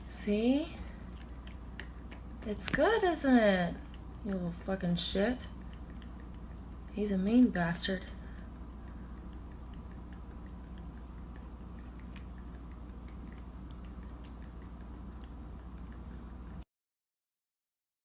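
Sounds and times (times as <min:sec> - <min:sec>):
steady low hum: 0:00.0 - 0:16.7
animal chewing with crunching clicks: 0:00.8 - 0:16.6.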